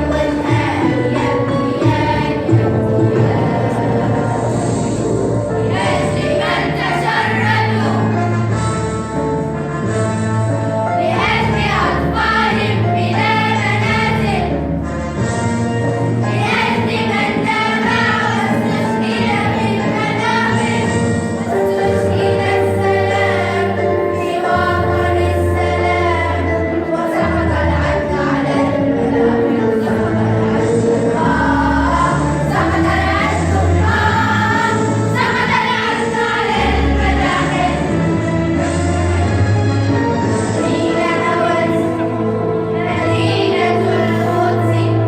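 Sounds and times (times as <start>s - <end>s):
choir singing together: 0.0s - 45.0s
instrumental backing: 0.0s - 45.0s.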